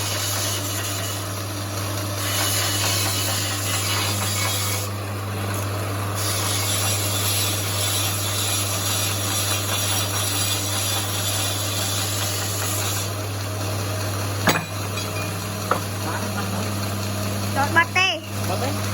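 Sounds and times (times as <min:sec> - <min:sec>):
electric motor hum: 0:00.0 - 0:18.9.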